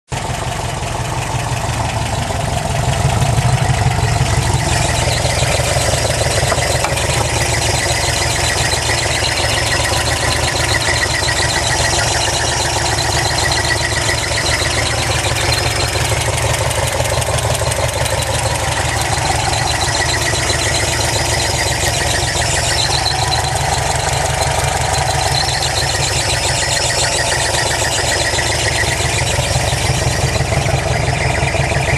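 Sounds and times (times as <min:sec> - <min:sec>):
engine running: 0:00.1 - 0:31.9
unfamiliar engine noises: 0:00.1 - 0:31.9.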